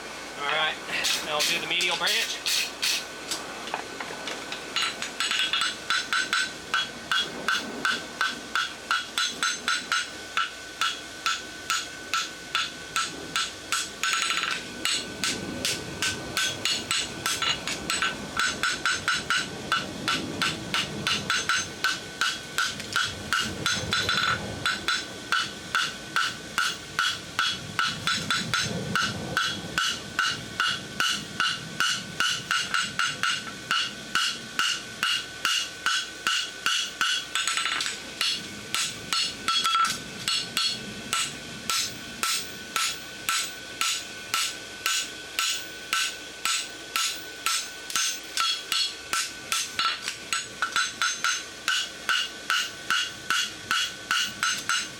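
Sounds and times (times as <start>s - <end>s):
hammer striking metal on anvil: 0.5s - 3.0s, 4.8s - 54.9s.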